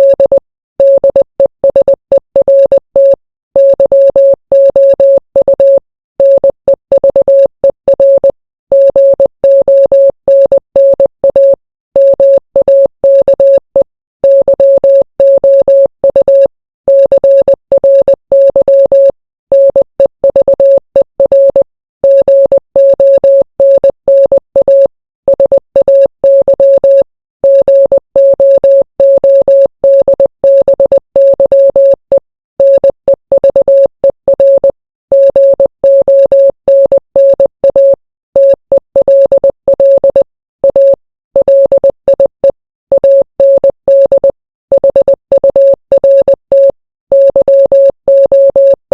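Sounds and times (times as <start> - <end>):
morse code beeps: 0.0 - 48.9.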